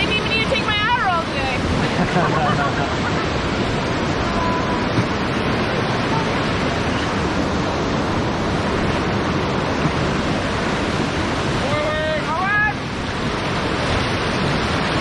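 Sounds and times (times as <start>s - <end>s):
river rapids rushing: 0.0s - 15.0s.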